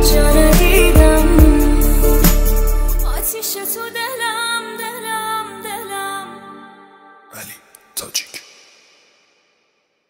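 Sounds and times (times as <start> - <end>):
pop song with wavering melody: 0.0 - 8.4.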